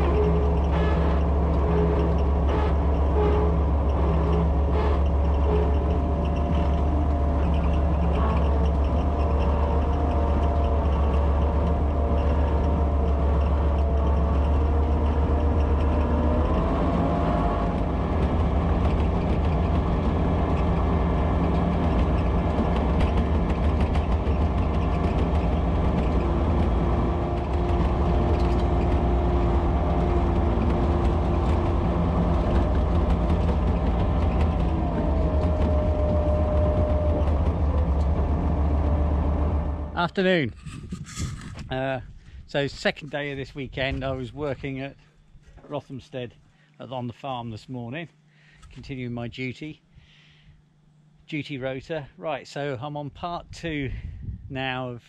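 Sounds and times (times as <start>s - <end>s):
tractor diesel engine running: 0.0s - 46.8s.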